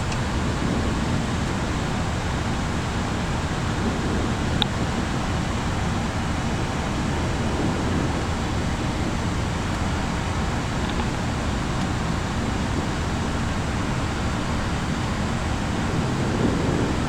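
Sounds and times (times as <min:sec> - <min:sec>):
rushing airflow in cockpit: 0:00.0 - 0:17.0.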